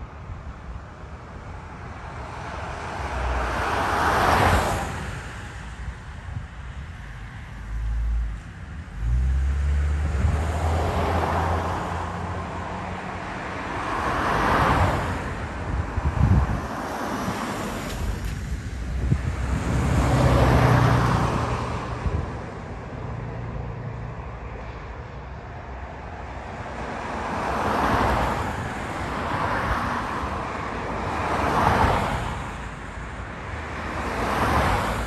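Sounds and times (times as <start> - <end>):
cars passing: 0.0 - 35.0.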